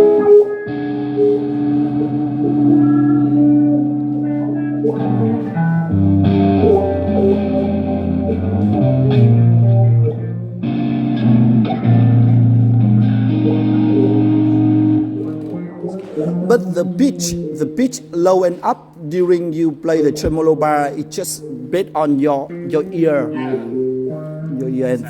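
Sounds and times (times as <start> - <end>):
electric guitar through amplifier: 0.0 - 25.0.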